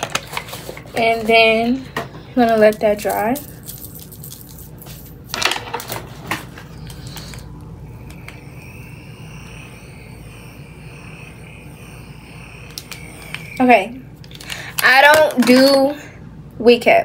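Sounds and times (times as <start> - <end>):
mini fan high whine: 0.0 - 17.0.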